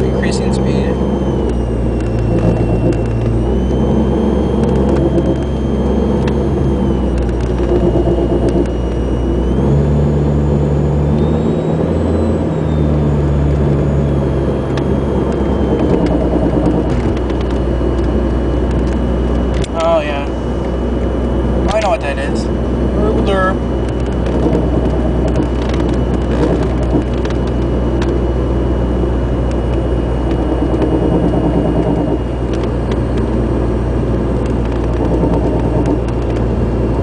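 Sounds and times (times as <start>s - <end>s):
car engine and road noise: 0.0s - 37.0s
faint high whine: 0.0s - 37.0s.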